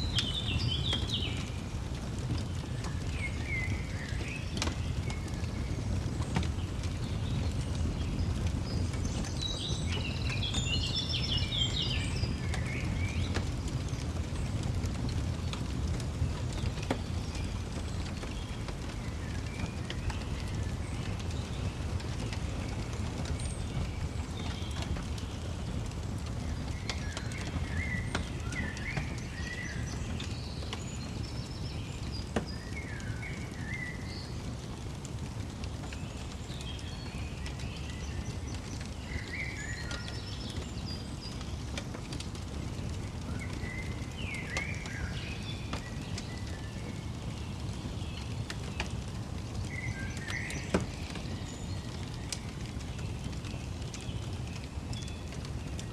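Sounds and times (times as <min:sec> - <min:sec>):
fire crackling and popping: 0:00.0 - 0:55.9
low fire rumble: 0:00.0 - 0:55.9
small birds chirping: 0:00.0 - 0:55.9.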